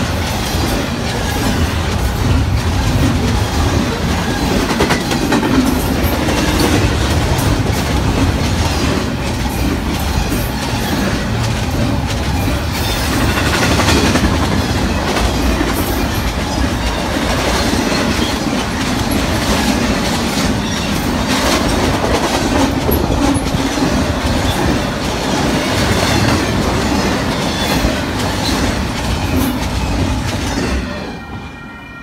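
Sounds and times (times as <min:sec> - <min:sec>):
steel wheels rumbling on rail: 0:00.0 - 0:31.7.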